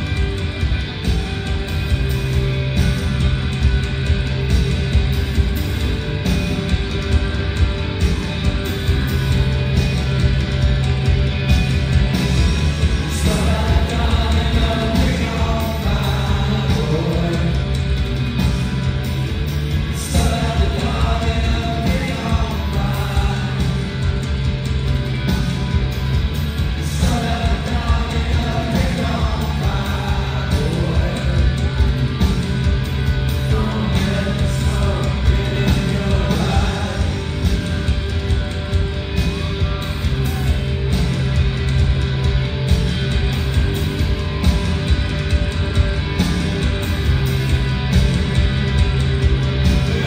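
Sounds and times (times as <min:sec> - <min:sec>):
bass: 0:00.0 - 0:50.0
drums: 0:00.0 - 0:50.0
electric guitar: 0:00.0 - 0:50.0.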